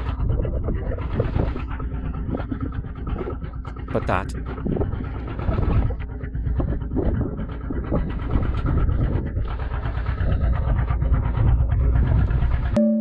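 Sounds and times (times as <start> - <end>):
boat engine rumbling: 0.0 - 12.8.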